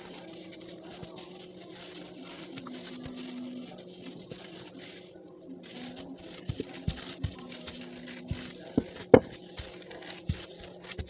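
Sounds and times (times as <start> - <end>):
faint background music: 0.0 - 11.0
rolling pin on dough: 0.0 - 11.0.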